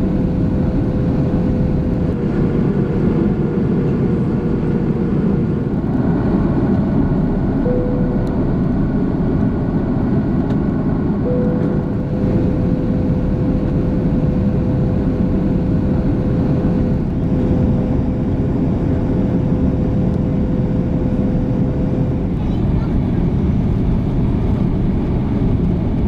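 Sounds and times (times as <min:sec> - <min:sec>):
aircraft cabin engine roar: 0:00.0 - 0:26.0
mid-pitched whine: 0:02.5 - 0:10.2, 0:10.9 - 0:25.6.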